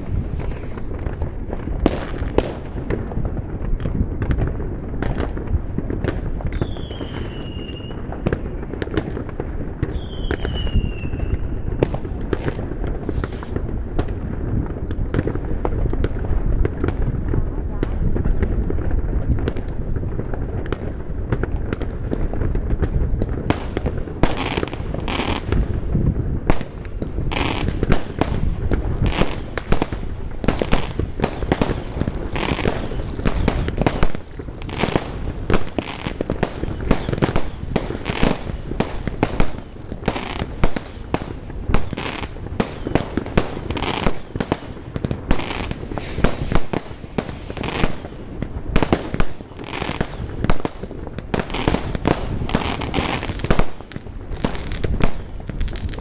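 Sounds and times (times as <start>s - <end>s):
firecrackers banging: 0.0s - 56.0s.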